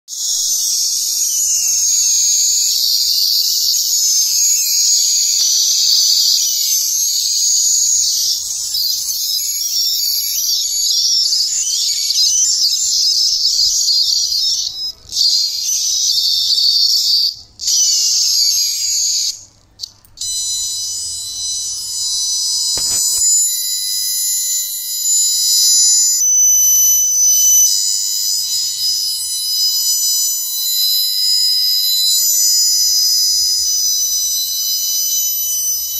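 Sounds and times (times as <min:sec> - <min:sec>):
piercing electronic tone: 0:00.2 - 0:35.9
shrill warbling electronic alarm: 0:00.2 - 0:35.9.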